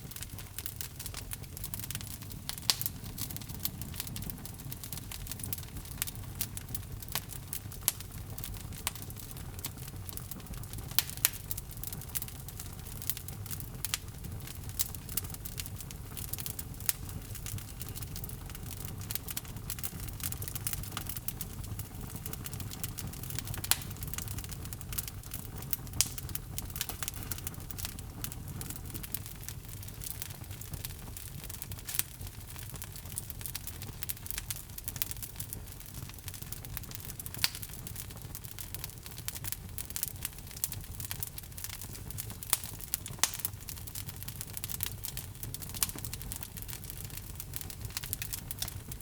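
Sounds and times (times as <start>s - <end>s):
log fire crackling: 0.0s - 49.0s.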